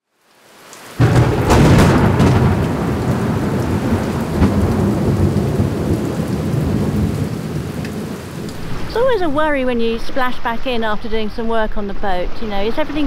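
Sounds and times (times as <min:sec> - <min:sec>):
heavy rain: 0:00.0 - 0:13.0
thunder rumbling: 0:01.0 - 0:13.0.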